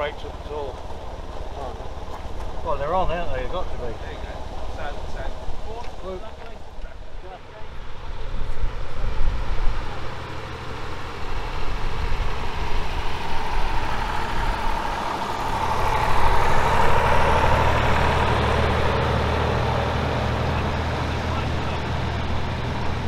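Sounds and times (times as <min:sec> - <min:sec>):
diesel locomotive engine running: 0:00.0 - 0:23.0
moving train rumble: 0:00.0 - 0:23.0.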